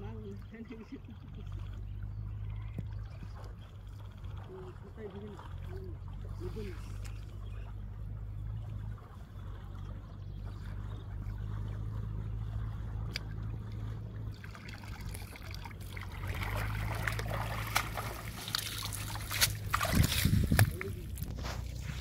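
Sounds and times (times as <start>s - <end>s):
steady low rumble: 0.0s - 22.0s
water trickling and splashing: 0.0s - 22.0s.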